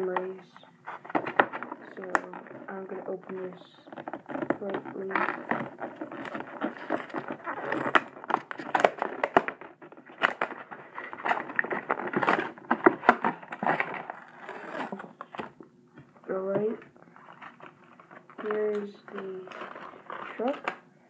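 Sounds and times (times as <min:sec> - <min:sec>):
packaging crackling and snapping: 0:00.9 - 0:15.6, 0:17.1 - 0:20.9.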